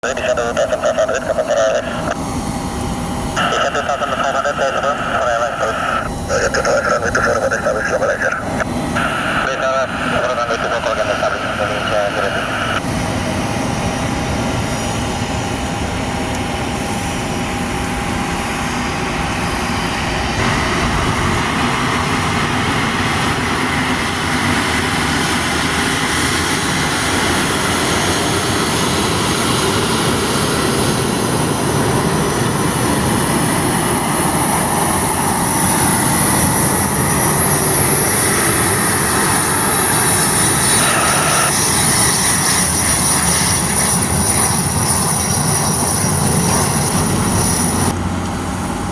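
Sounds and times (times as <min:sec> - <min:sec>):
jet aircraft landing: 0:00.0 - 0:48.9.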